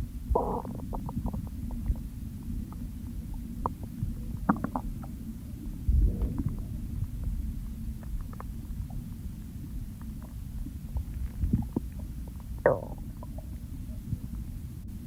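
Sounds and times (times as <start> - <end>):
stomach rumbling and gurgling: 0.0 - 15.0.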